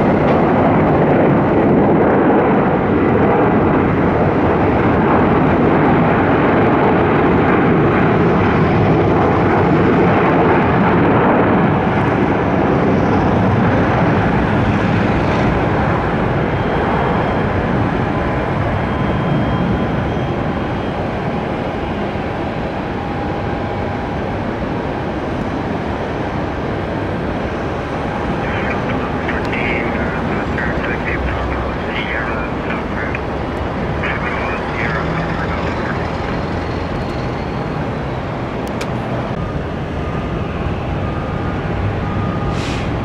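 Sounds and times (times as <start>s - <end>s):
jet engines rushing: 0.0s - 43.0s.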